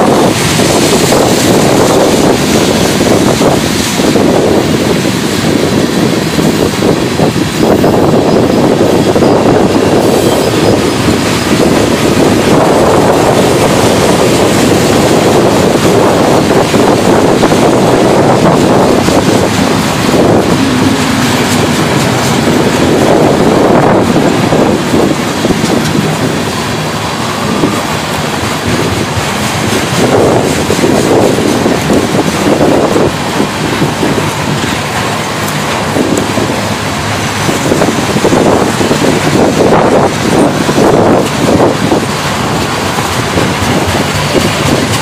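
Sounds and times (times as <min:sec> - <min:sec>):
steel wheels rolling on rails: 0:00.0 - 0:45.0.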